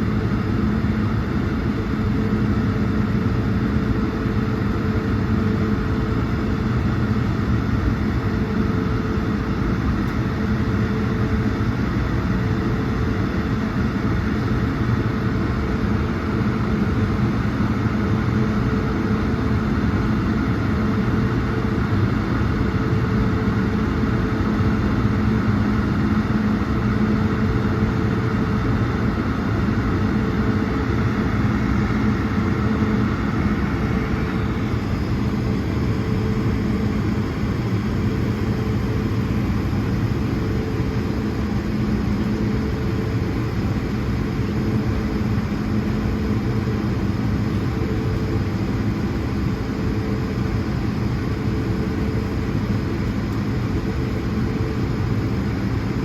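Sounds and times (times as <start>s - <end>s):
aircraft cabin drone: 0.0s - 56.0s.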